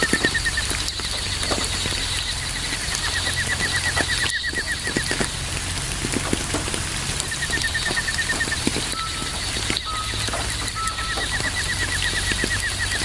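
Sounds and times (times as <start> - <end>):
rapid chirping trill: 0.0 - 5.4, 7.2 - 13.0
steady rain: 0.0 - 13.0
water drips: 0.0 - 13.0.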